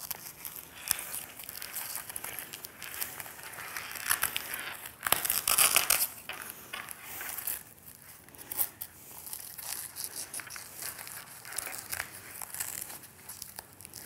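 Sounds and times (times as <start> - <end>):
nylon belt crinkling: 0.0 - 14.0
velcro ripping and rasping: 0.0 - 14.0.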